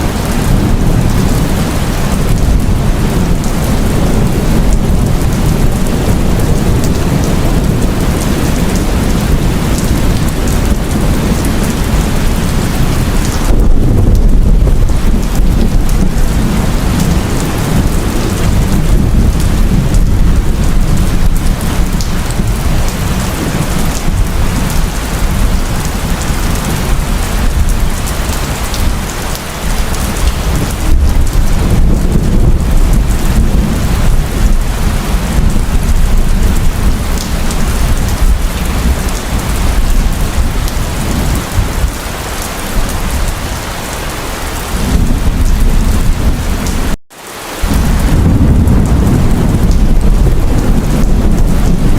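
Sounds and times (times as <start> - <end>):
heavy rain falling: 0.0 - 51.9
low thunder rumbling: 0.0 - 51.9.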